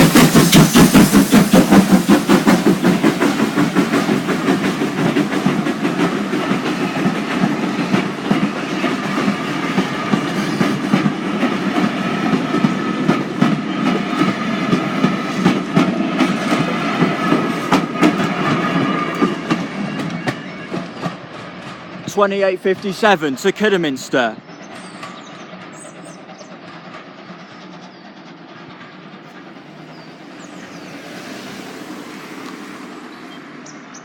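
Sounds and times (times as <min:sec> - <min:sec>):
coaches clattering over rail joints: 0:00.0 - 0:31.2
steam train passing: 0:00.0 - 0:34.0.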